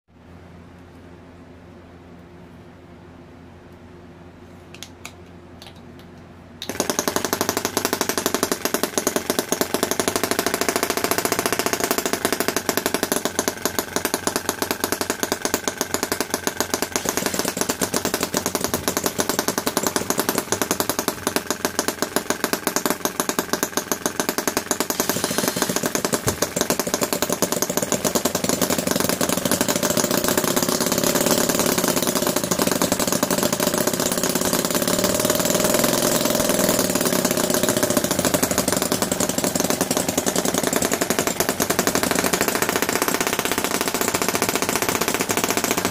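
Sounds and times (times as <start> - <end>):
model engine running fast: 6.6 - 45.9.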